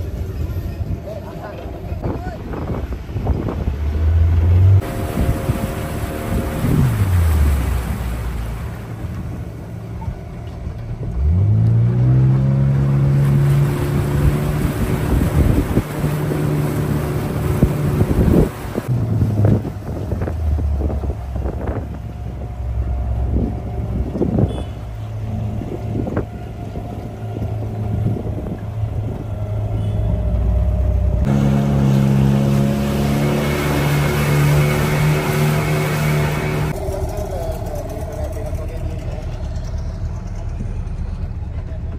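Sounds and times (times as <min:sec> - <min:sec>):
motorboat engine: 0:02.8 - 0:41.9.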